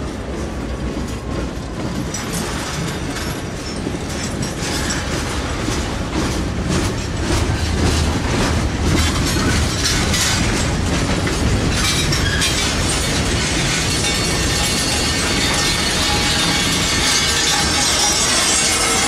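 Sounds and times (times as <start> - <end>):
freight train rumbling past: 0.0 - 19.0
train wheels clicking over rail: 0.1 - 19.0.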